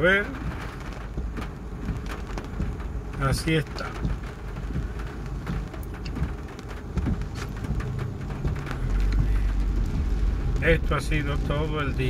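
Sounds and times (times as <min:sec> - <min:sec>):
heavy rain on a car: 0:00.0 - 0:12.0
low rumble: 0:00.0 - 0:12.0.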